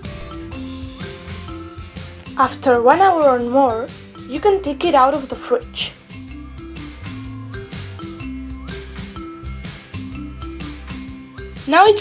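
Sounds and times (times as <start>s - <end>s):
upbeat marimba tune: 0.0s - 12.0s.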